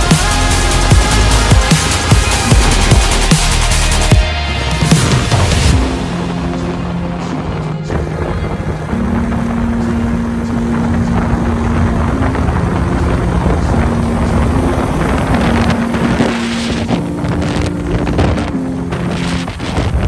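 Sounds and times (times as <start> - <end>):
background music: 0.0 - 20.0
motorcycle riding at speed: 0.0 - 20.0
wind rushing over microphone: 0.0 - 20.0.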